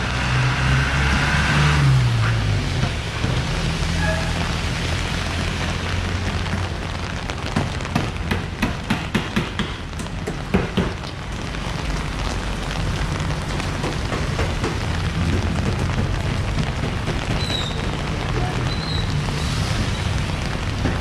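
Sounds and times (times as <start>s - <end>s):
rain hissing: 0.0s - 21.0s
raindrops tapping microphone: 0.0s - 21.0s
road traffic rumble: 0.0s - 21.0s.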